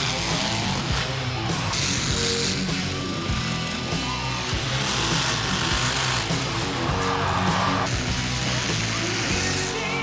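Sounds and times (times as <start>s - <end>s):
rock song with strummed guitar: 0.0s - 10.0s.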